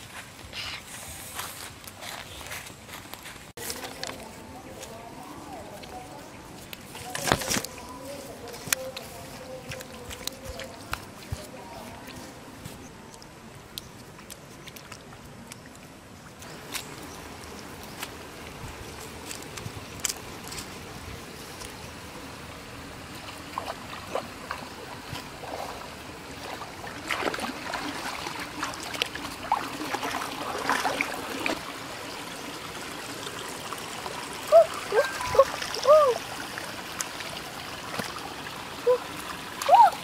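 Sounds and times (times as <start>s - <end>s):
stream trickling: 0.0s - 40.0s
feet wading through water: 1.6s - 40.0s.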